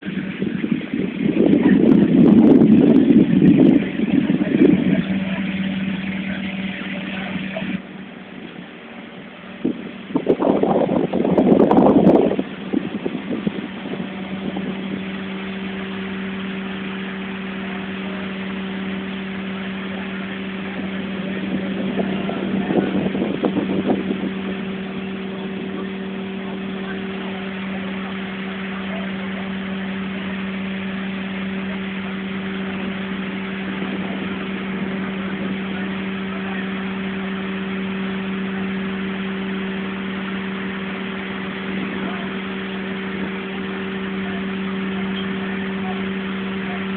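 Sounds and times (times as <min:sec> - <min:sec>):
boat engine running: 0:00.0 - 0:46.9
rush of noise: 0:00.0 - 0:46.9.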